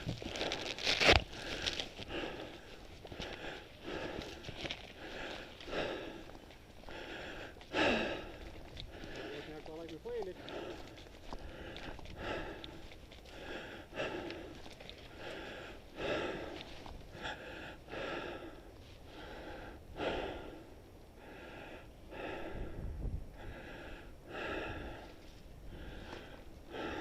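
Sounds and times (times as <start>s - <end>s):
person breathing hard: 0.0s - 27.0s.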